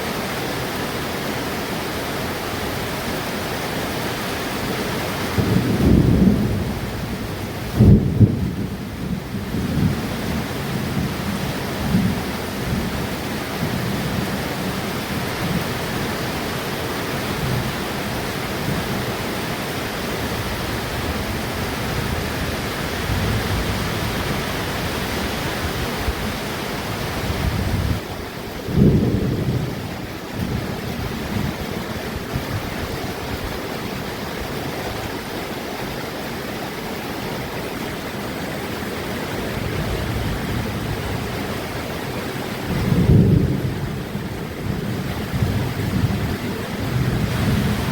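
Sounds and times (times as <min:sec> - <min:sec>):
steady rain: 0:00.0 - 0:47.9
thunder rumbling: 0:04.8 - 0:16.5, 0:17.1 - 0:34.6, 0:38.4 - 0:47.9.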